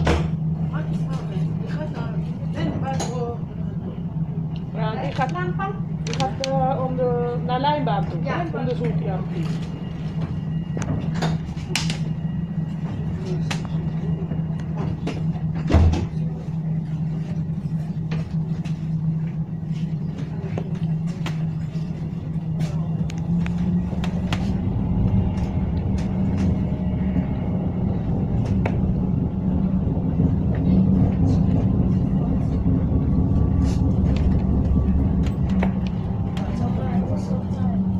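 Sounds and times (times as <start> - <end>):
tram hum: 0.0 - 37.9.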